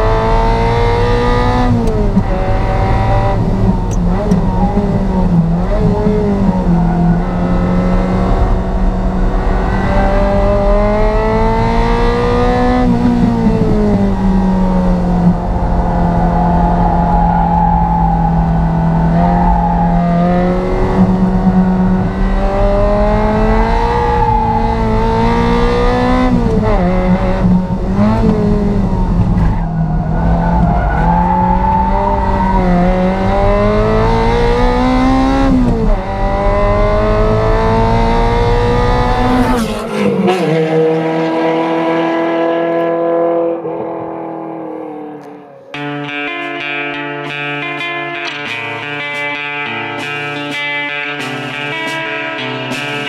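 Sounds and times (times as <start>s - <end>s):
sports car engine revving: 0.0s - 46.1s.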